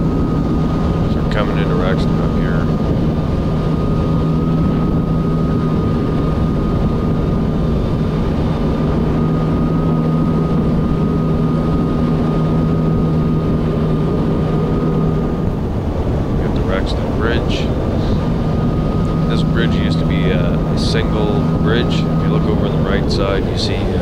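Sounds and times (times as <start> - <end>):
high-pitched whine: 0.0 - 24.0
jet ski engine running: 0.0 - 24.0.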